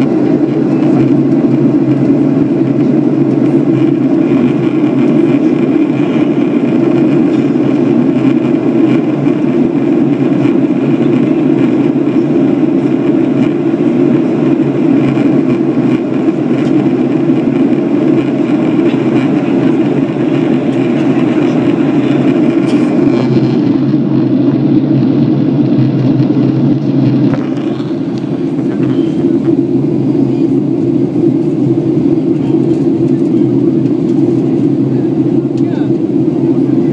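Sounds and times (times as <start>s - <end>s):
airplane cabin engine rumble: 0.0s - 36.9s.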